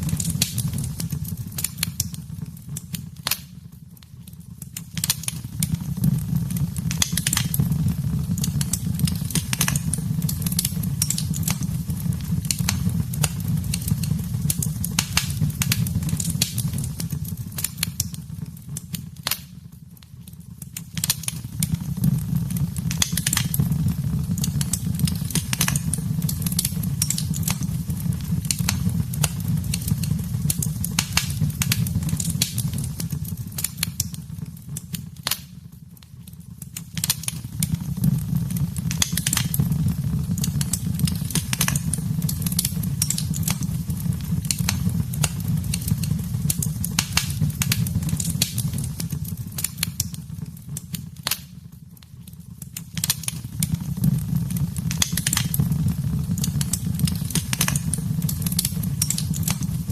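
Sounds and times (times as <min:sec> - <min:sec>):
low roar of flames: 0:00.0 - 0:03.4, 0:04.3 - 0:19.4, 0:20.3 - 0:35.4, 0:36.3 - 0:51.4, 0:52.2 - 0:59.9
wood fire crackling and popping: 0:00.0 - 0:59.9.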